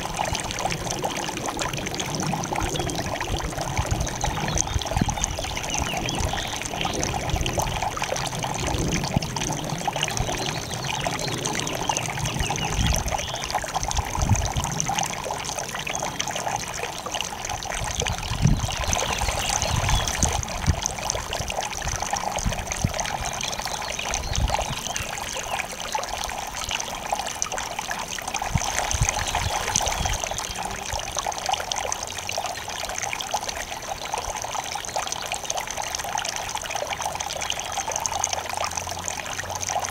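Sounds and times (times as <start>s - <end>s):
fountain water trickling over rocks: 0.0s - 39.9s.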